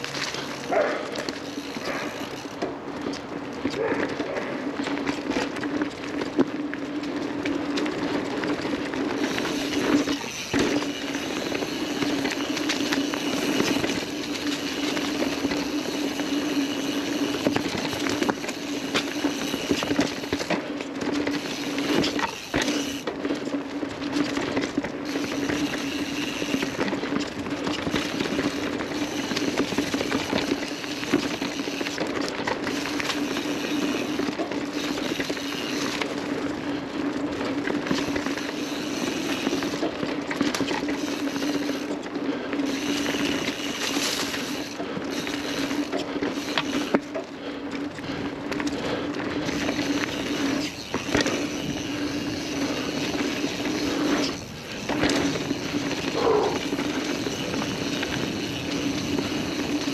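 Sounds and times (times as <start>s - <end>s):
bike rattling over bumps: 0.0s - 59.9s
bike tyre hum on dirt: 0.0s - 59.9s.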